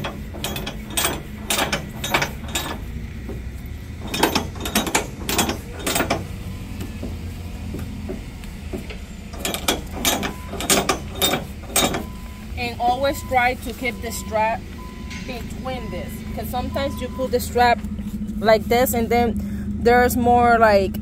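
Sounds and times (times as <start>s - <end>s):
strap winch ratcheting clicks: 0.0s - 18.2s.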